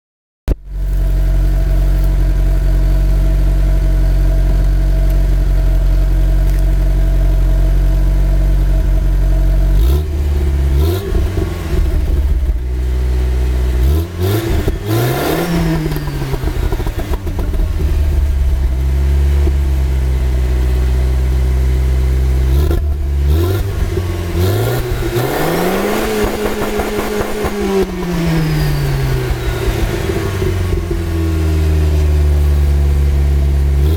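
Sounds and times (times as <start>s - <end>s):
car engine idling and revving: 0.5s - 33.9s.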